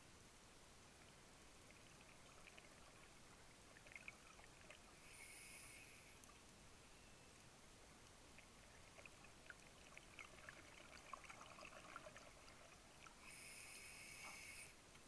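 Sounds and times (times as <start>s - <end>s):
faint underwater hiss: 0.0s - 15.0s.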